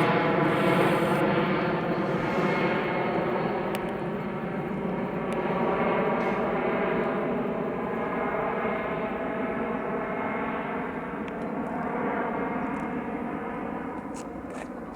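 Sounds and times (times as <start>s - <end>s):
jet engines droning rumble: 0.0s - 14.0s.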